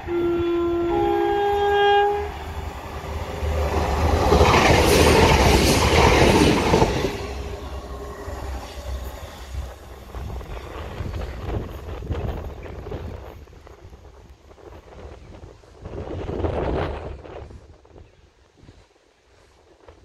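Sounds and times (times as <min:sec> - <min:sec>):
diesel train passing at speed: 0:00.0 - 0:18.0.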